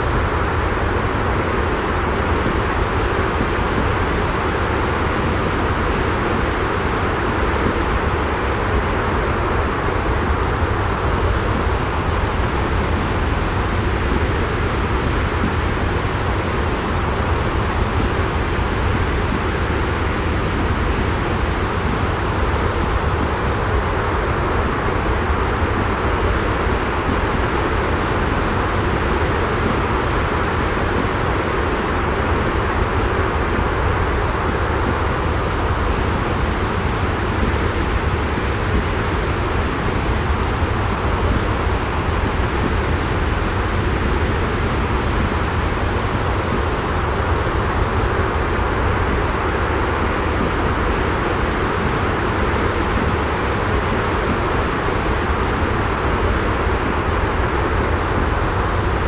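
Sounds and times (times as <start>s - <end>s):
steady white noise rushing: 0.0s - 59.0s.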